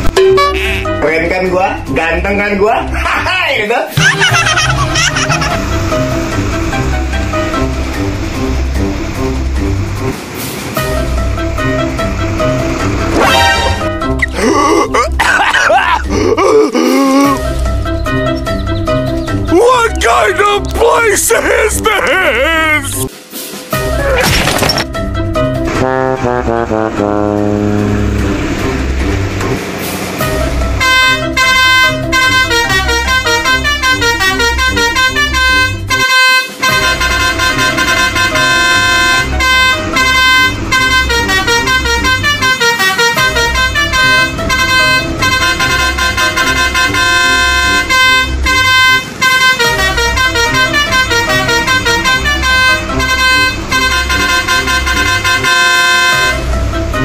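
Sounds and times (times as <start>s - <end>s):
musical truck horns tune: 0.0s - 3.0s, 3.9s - 24.2s, 24.8s - 57.0s.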